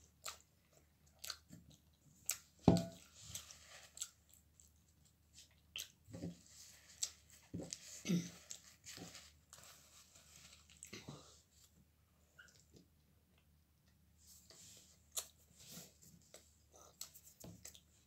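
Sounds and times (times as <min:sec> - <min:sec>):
chewing pizza: 0:00.0 - 0:11.7, 0:15.0 - 0:18.0.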